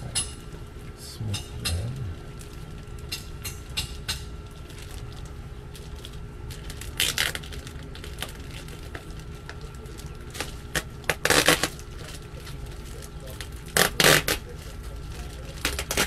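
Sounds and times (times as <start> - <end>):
plastic crinkling and clicking: 2.4 - 16.0
plastic rustle: 2.4 - 16.0.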